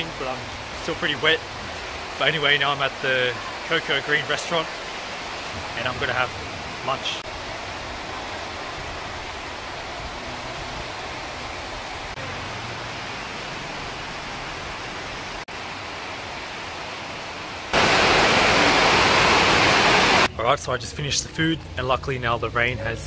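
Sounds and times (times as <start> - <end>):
heavy rain pouring: 0.0 - 20.3.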